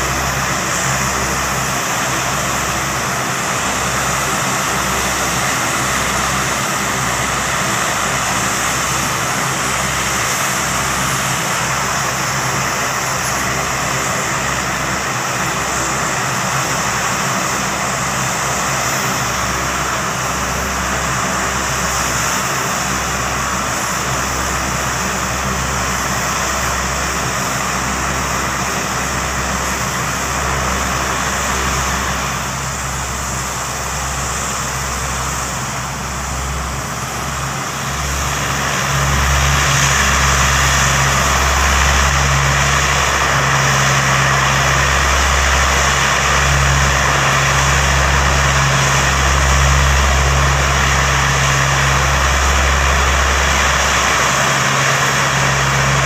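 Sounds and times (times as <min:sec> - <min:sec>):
aircraft engines droning: 0:00.0 - 0:56.0.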